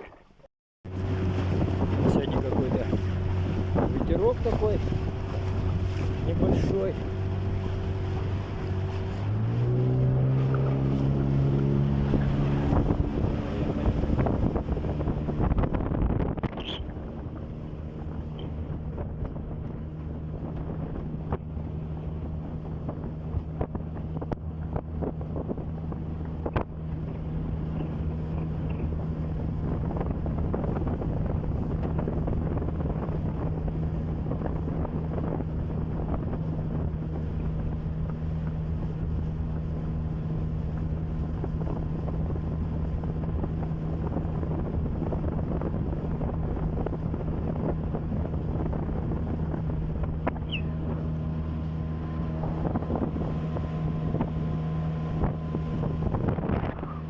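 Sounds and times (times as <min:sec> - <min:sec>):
outboard motor running: 0:00.0 - 0:57.0
wind buffeting microphone: 0:00.9 - 0:57.0.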